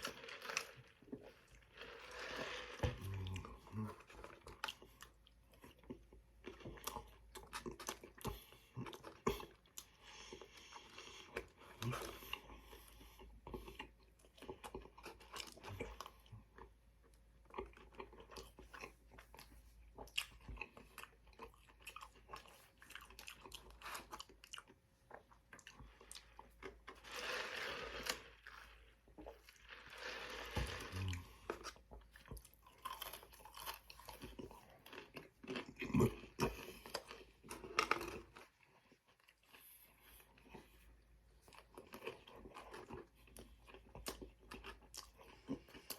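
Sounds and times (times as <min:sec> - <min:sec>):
man chewing crunchy food: 0:00.0 - 0:45.9.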